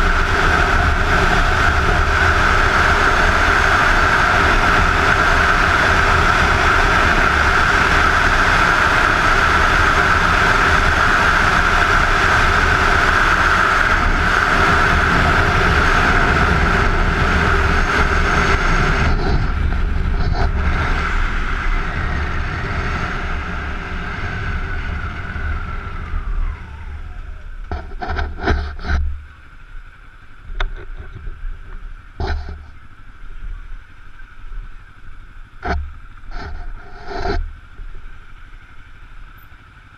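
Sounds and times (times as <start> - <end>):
wind rushing over camera: 0.0 - 29.3, 30.4 - 34.7, 35.5 - 38.2
motorcycle engine running: 0.0 - 39.9.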